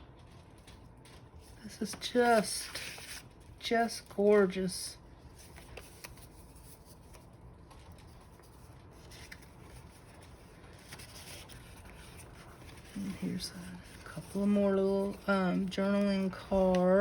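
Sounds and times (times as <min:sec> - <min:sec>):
paper rustling: 0:00.1 - 0:04.4, 0:05.2 - 0:17.0.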